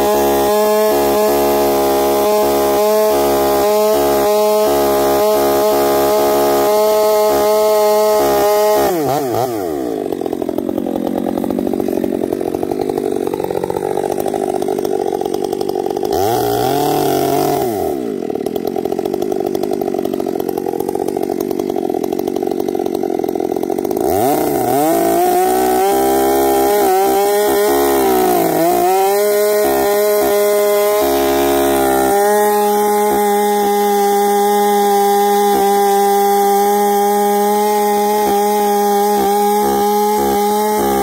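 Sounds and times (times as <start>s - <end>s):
chainsaw cutting a tree trunk: 0.0s - 41.0s.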